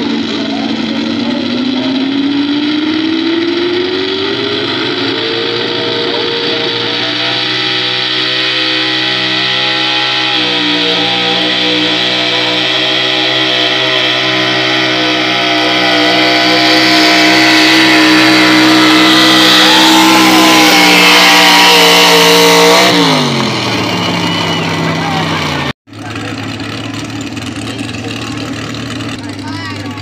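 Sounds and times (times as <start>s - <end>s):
truck engine at high revs: 0.0s - 30.0s.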